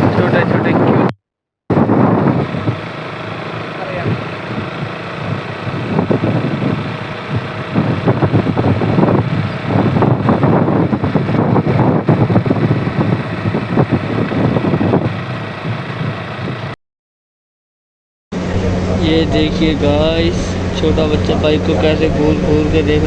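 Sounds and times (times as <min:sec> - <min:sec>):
wind buffeting microphone: 0:00.0 - 0:01.1, 0:01.7 - 0:16.8, 0:18.4 - 0:23.0
motorcycle running: 0:01.7 - 0:16.8, 0:18.3 - 0:23.0.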